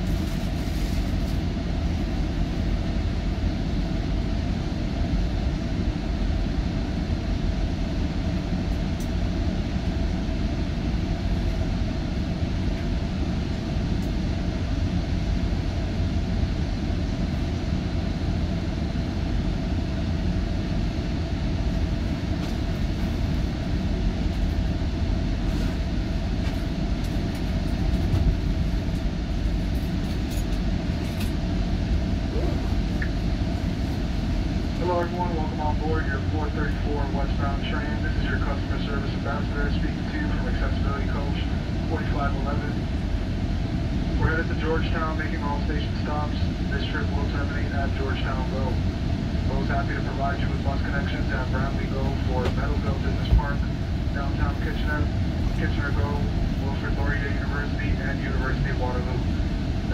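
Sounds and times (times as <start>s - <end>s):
constant hum: 0.0s - 59.9s
diesel train rumbling: 0.0s - 59.9s.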